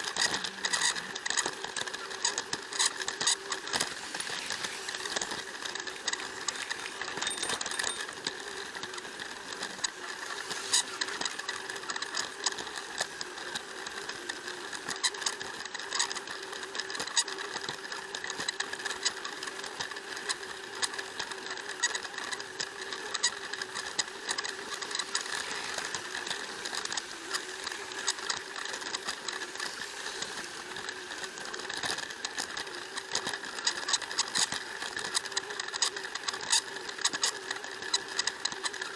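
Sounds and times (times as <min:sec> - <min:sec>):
toy train motor whine: 0:00.0 - 0:38.9
wheels clicking over track joints: 0:00.0 - 0:38.9.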